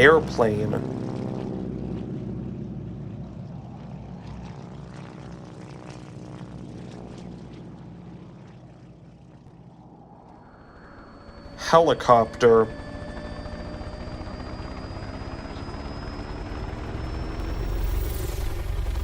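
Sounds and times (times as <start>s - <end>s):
airplane engine droning: 0.0s - 19.0s.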